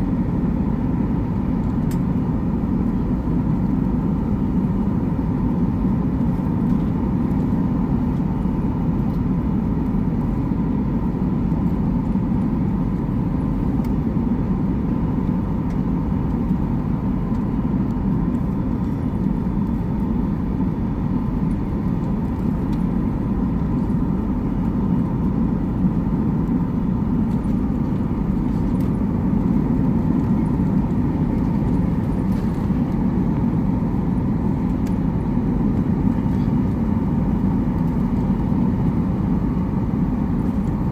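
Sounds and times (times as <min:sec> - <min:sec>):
faint steady hum: 0:00.0 - 0:40.9
vehicle rumble inside cabin: 0:00.0 - 0:40.9.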